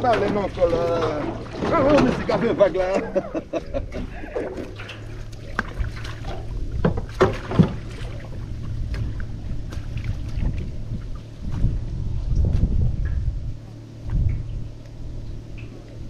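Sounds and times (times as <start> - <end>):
boat motor hum: 0.0 - 16.0.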